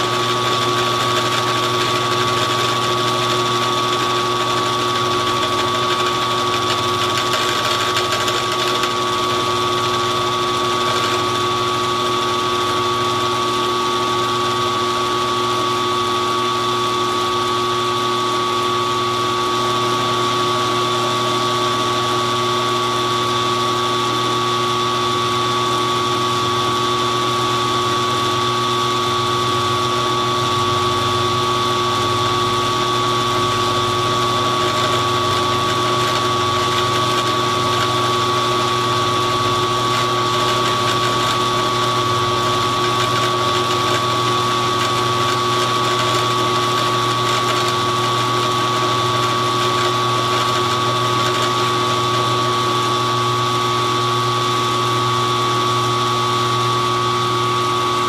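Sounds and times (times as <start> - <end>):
milling machine whining: 0.0 - 58.0.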